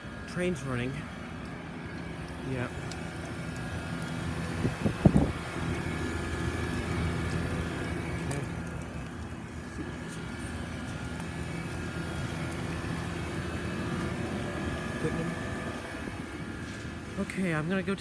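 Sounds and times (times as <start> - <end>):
heat pump fan drone: 0.0 - 18.0.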